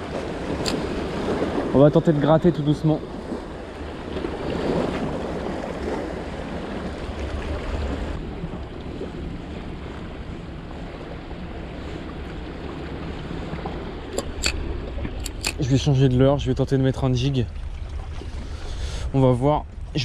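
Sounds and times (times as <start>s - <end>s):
sea waves washing against rocks: 0.0s - 16.1s.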